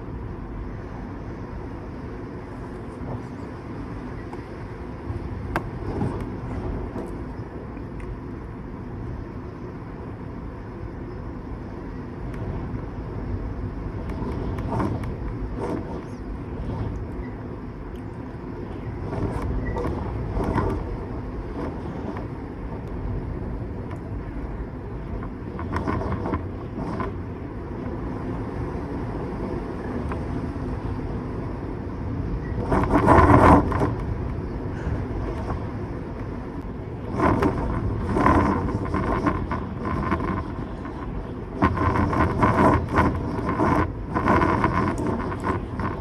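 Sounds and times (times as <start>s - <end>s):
strong wind blowing: 0.0s - 46.0s.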